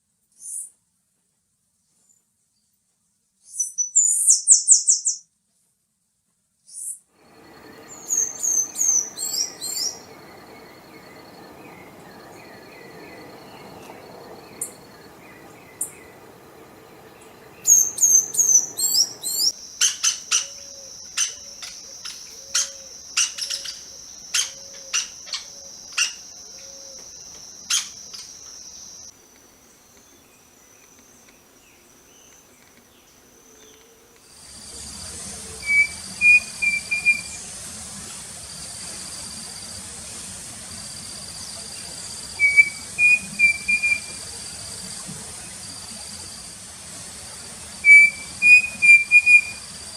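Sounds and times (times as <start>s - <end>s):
forest birds chirping: 3.4s - 5.3s, 6.6s - 49.9s.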